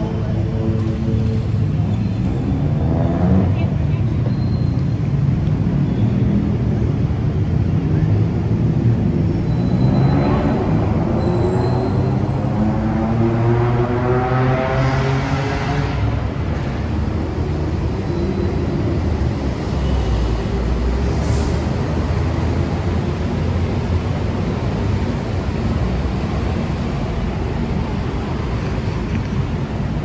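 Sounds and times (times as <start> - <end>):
heavy vehicle engines rumbling: 0.0 - 30.0.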